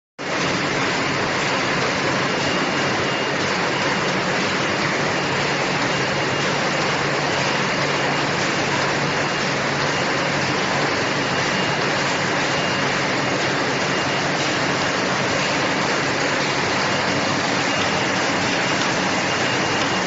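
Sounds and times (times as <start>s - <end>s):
conveyor machinery running: 0.2s - 20.0s.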